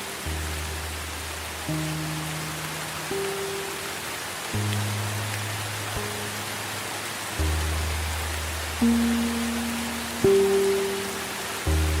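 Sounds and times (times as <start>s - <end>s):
calm ambient music: 0.0s - 12.0s
rain hiss: 0.0s - 12.0s.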